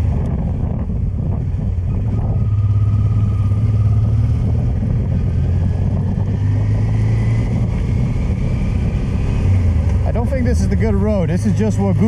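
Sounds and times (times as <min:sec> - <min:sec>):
motorcycle engine running: 0:00.0 - 0:12.0
road noise: 0:00.0 - 0:12.0
wind noise: 0:00.0 - 0:12.0.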